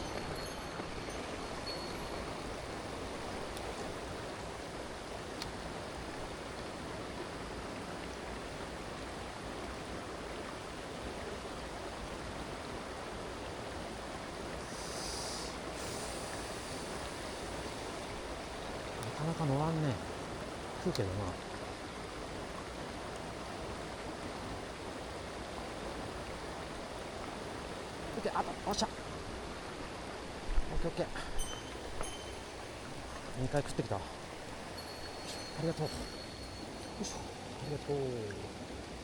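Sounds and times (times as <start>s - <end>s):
stream rushing: 0.0s - 39.0s.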